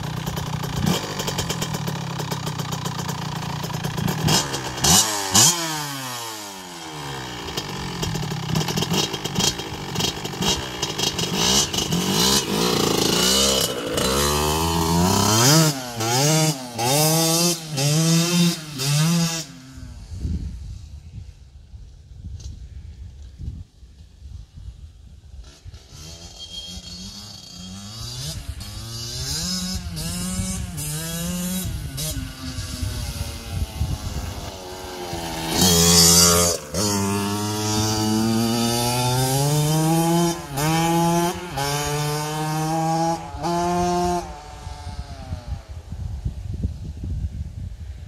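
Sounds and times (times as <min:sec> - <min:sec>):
motocross bike revving through gears: 0:00.0 - 0:19.9, 0:25.4 - 0:45.6.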